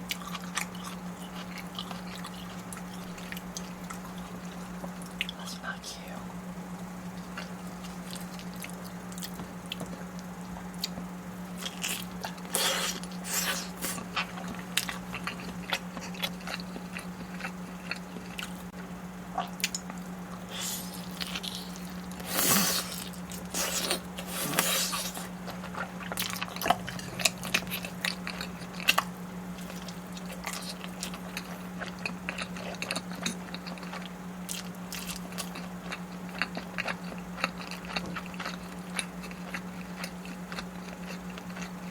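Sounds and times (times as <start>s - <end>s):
low electrical hum: 0.0s - 41.9s
person biting and chewing food: 0.1s - 5.4s, 7.2s - 18.7s, 19.3s - 41.9s.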